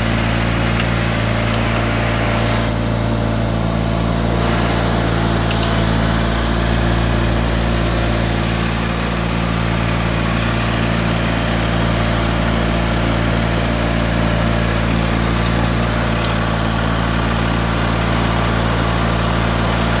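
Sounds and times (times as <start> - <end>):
garden tractor engine running: 0.0 - 20.0.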